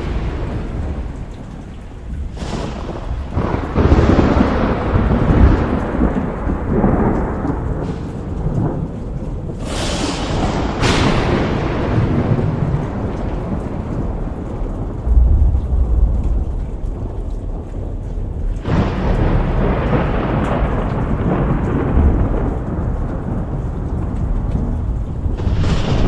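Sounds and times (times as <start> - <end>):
heavy rain: 0.0 - 26.0
thunder cracks and rumble: 0.0 - 26.0.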